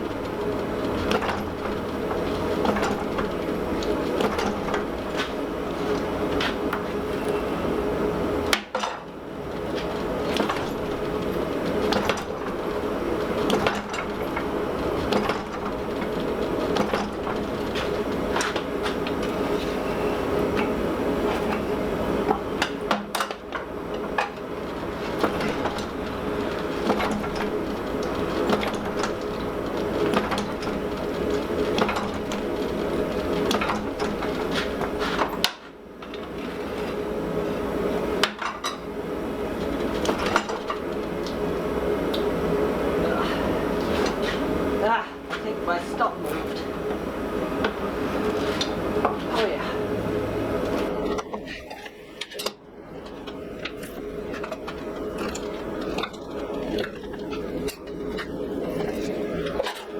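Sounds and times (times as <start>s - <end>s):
constant droning hum: 0.0s - 59.9s.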